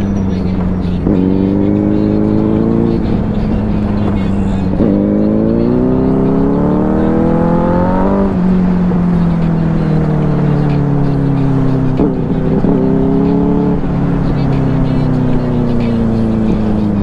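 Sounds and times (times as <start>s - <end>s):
motorcycle engine accelerating: 0.0s - 17.0s
motorcycle engine blips: 0.0s - 17.0s.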